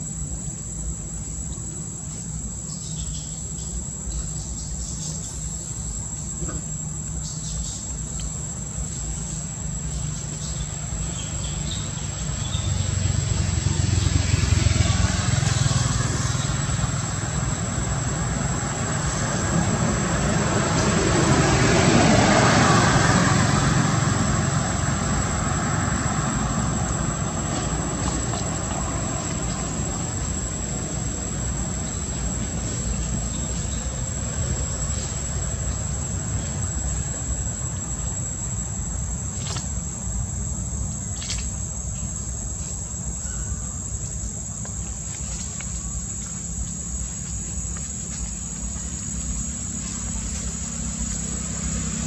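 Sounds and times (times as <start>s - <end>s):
high insect drone: 0.0s - 52.0s
passing vehicles rumble: 0.0s - 52.0s.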